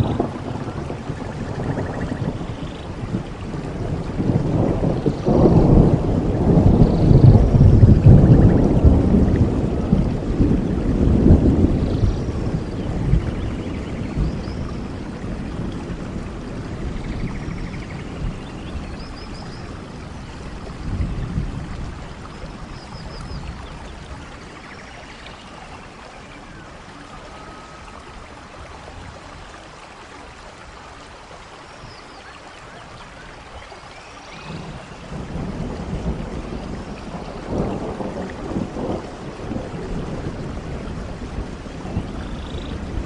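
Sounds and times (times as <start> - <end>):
distant thunder rumbling: 0.0 - 30.6, 32.5 - 43.0
steady rain: 0.0 - 43.0.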